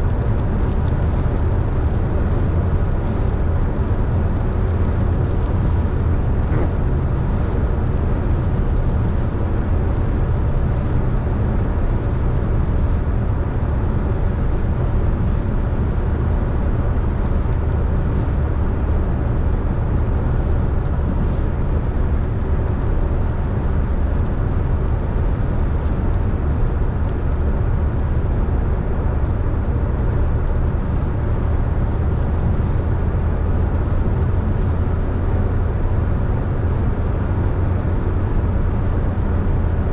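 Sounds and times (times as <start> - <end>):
car engine rumble: 0.0 - 39.9
rain: 0.0 - 39.9
tyre noise on wet road: 0.0 - 39.9.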